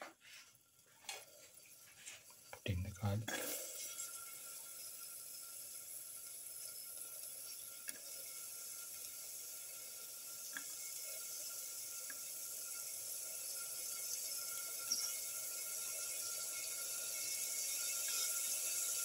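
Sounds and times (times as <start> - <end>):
garlic sizzling in hot oil: 0.2 - 19.0.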